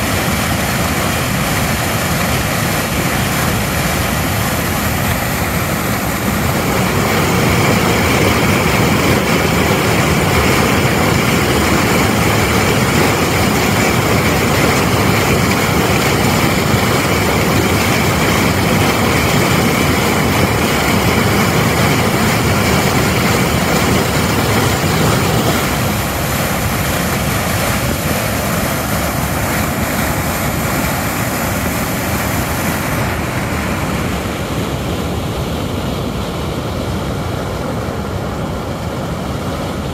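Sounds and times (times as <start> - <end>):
water rushing over weir: 0.0 - 39.9.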